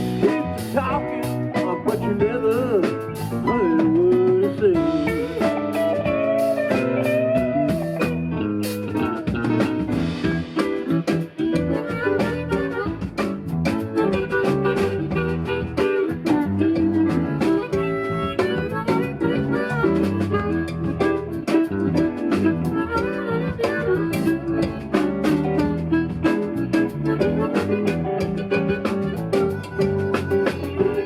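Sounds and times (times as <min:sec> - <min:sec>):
drum kit steady beat: 0:00.0 - 0:31.0
electric guitar: 0:00.0 - 0:31.0.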